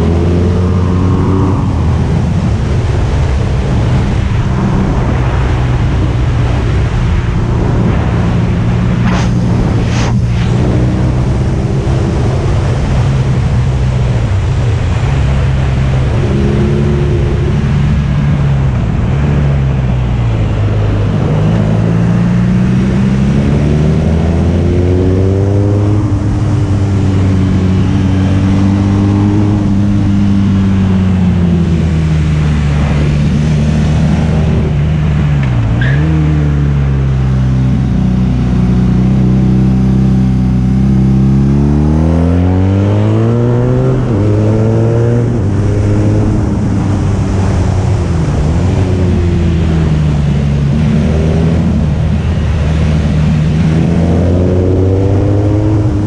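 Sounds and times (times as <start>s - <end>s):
motorcycle engine cruising: 0.0s - 56.0s
wind noise: 0.0s - 56.0s.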